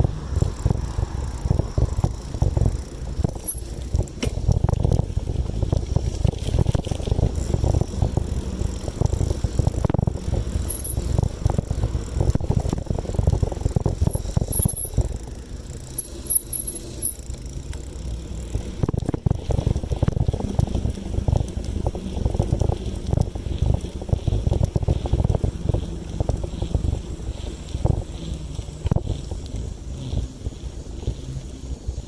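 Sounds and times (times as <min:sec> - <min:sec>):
wind buffeting microphone: 0:00.0 - 0:15.5, 0:18.4 - 0:32.0.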